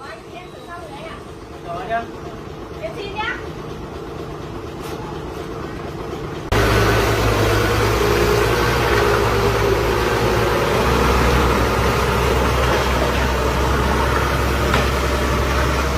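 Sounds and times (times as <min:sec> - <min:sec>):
large engine running loudly: 0:00.3 - 0:15.9.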